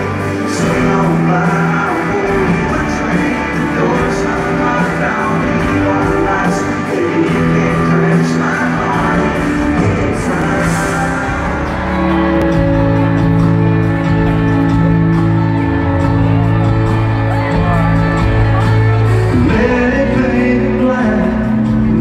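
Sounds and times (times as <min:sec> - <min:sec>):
live country band playing: 0:00.0 - 0:22.0
person singing lead vocal: 0:00.0 - 0:22.0.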